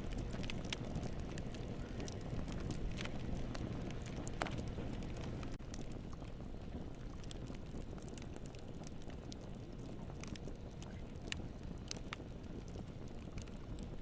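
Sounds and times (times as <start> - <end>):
low rumble of burning: 0.0 - 14.0
sharp pops of fire: 0.0 - 14.0
wood fire crackling: 0.0 - 14.0.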